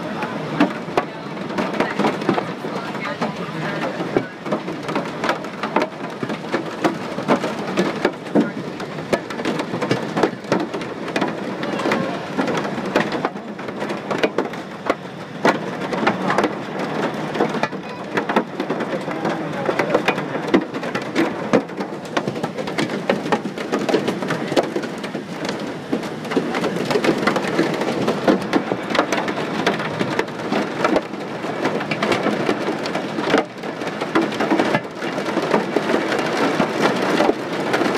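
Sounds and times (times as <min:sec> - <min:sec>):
hail and rain on aircraft fuselage: 0:00.0 - 0:37.9.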